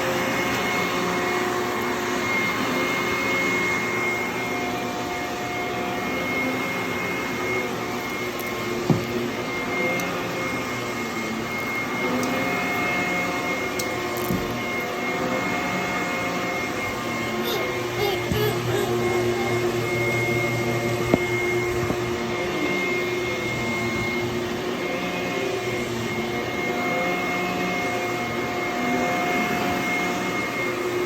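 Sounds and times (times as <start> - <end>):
vacuum cleaner whining: 0.0 - 31.0.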